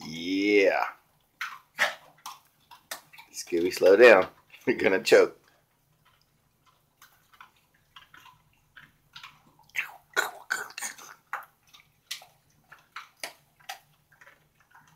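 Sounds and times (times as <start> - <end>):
dog crunching biscuit: 0.0 - 14.9.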